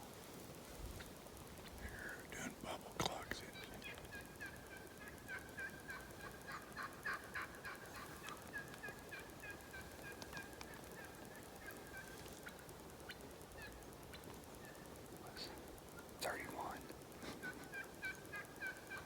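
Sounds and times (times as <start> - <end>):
wild turkey calling: 3.2 - 19.0.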